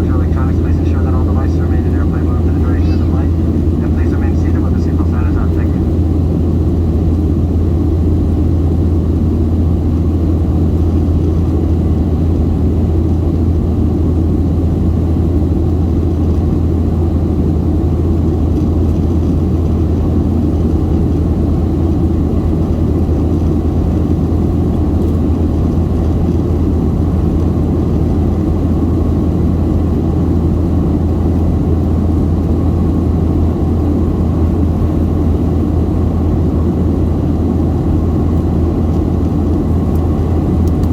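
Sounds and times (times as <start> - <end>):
airplane cabin drone: 0.0 - 40.9.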